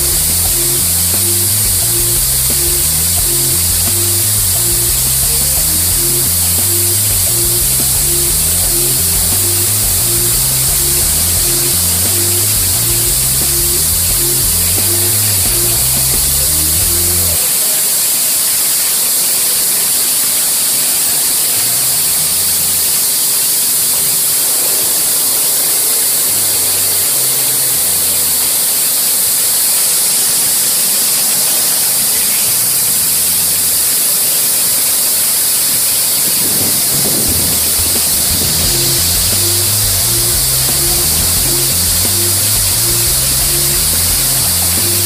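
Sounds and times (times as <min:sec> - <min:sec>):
rotating car wash brushes: 0:00.0 - 0:18.0, 0:20.0 - 0:45.0
water spraying over car: 0:00.0 - 0:45.0.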